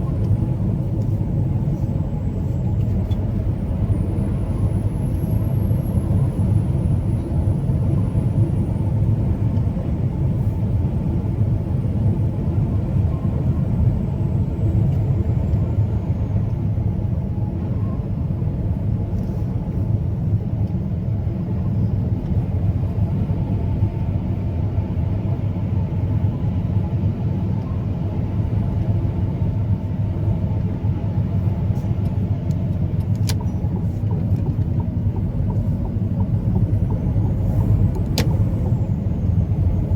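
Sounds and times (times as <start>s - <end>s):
truck engine low rumble: 0.0s - 39.9s.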